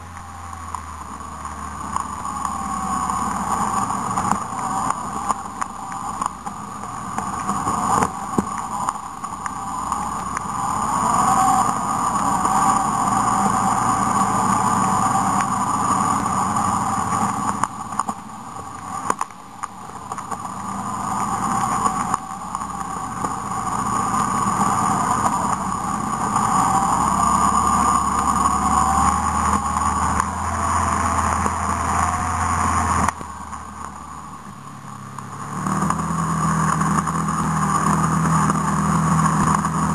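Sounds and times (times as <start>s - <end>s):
rushing drone of riding: 0.0s - 39.9s.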